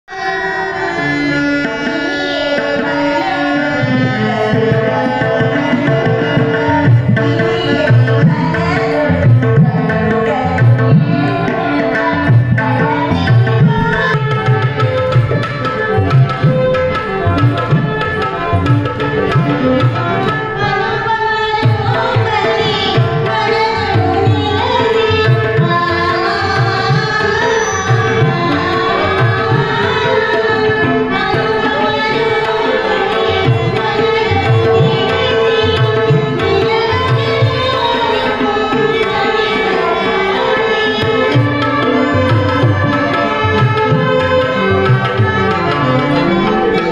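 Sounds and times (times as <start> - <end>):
tabla rhythm: 0.1 - 46.9.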